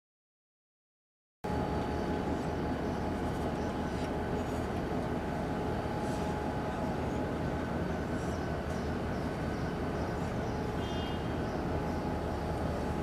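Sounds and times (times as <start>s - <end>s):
faint steady whine: 1.4s - 13.0s
locomotive rumbling: 1.5s - 13.0s.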